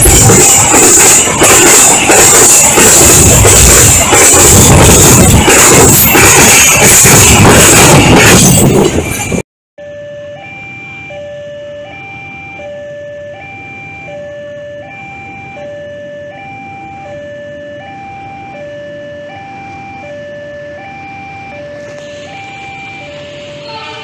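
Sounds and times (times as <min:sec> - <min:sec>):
two-tone crossing alarm: 0:00.0 - 0:24.0.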